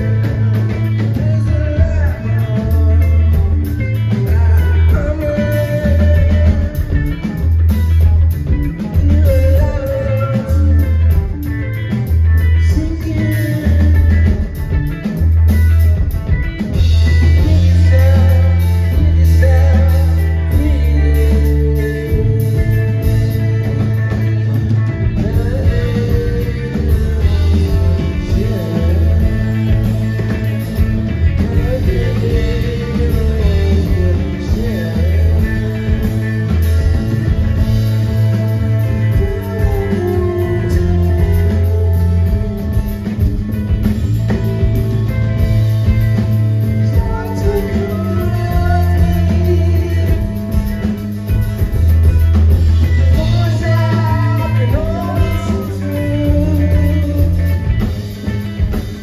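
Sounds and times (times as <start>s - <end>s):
person singing: 0.0s - 7.6s, 8.6s - 14.9s, 16.7s - 45.1s, 45.9s - 51.2s, 52.8s - 58.0s
deep bass guitar line: 0.0s - 59.0s
live rock band playing: 0.0s - 59.0s.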